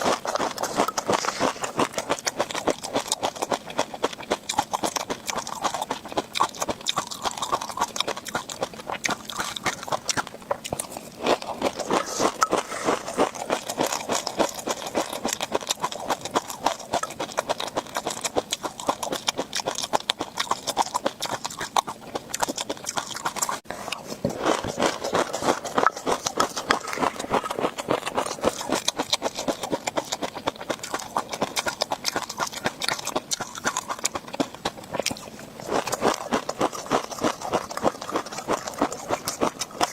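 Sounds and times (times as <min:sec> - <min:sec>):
chewing crunchy fish roe: 0:00.0 - 0:39.9.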